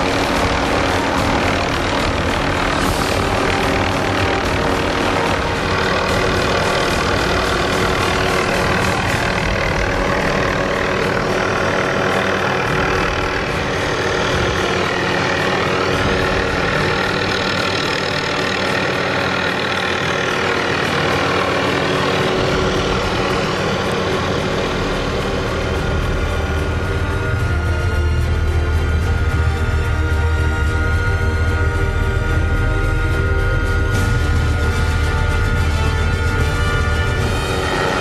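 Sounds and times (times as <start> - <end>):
helicopter rotor whoosh: 0.0 - 38.0
helicopter turbine whine: 0.0 - 38.0.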